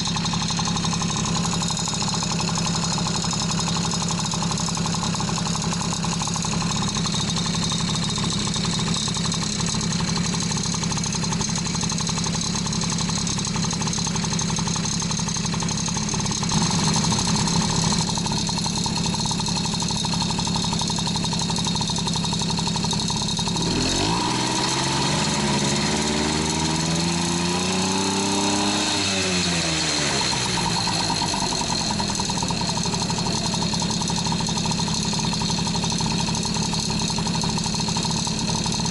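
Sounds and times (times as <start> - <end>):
two-stroke engine running and revving: 0.0 - 38.9.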